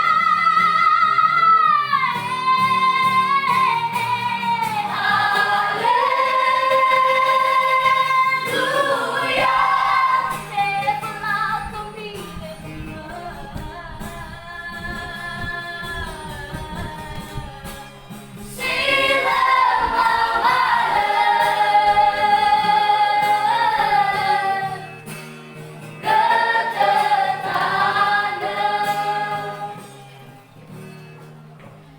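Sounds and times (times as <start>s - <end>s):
female vocal group singing: 0.0s - 17.6s, 18.4s - 25.1s, 26.0s - 30.0s.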